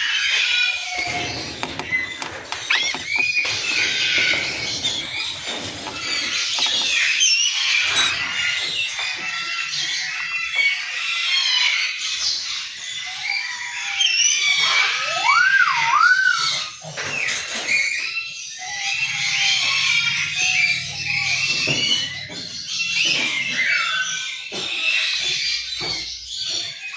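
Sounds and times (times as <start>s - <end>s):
baby parrots chirping and squealing: 0.0s - 26.9s.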